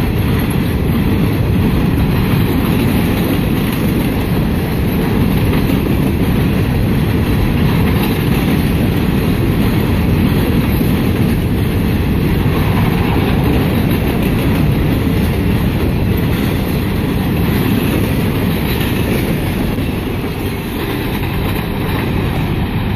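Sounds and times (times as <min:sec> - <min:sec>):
train wheels clattering over rails: 0:00.0 - 0:22.9.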